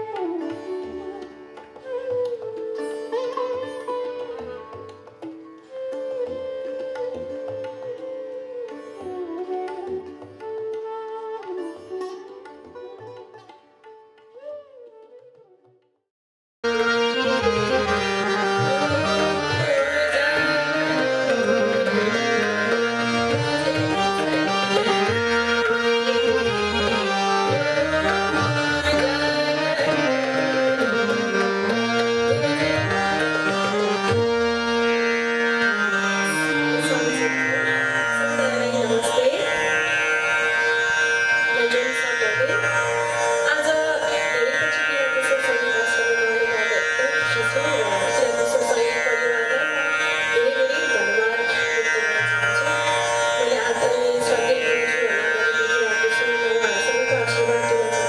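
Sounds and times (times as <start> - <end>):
harmonium melody: 0.0 - 11.5, 16.6 - 58.0
tanpura drone: 0.0 - 14.9, 16.6 - 58.0
tabla: 0.0 - 16.0, 16.6 - 58.0.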